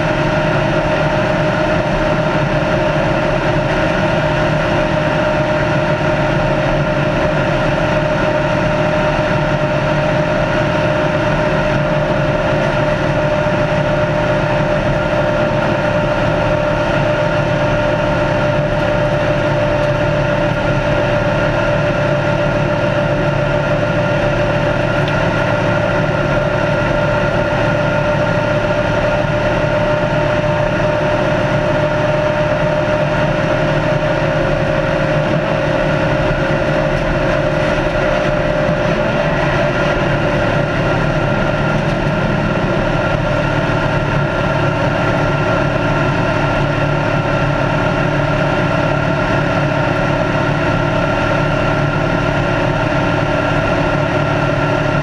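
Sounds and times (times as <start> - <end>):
race car engine drone: 0.0 - 55.0
road and wind noise: 0.0 - 55.0.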